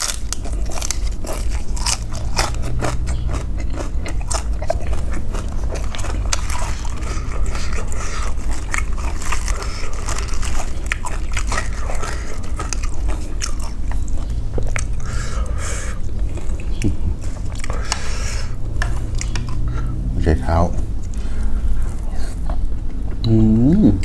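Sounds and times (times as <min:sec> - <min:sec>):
person chewing noodle soup: 0:00.0 - 0:24.0.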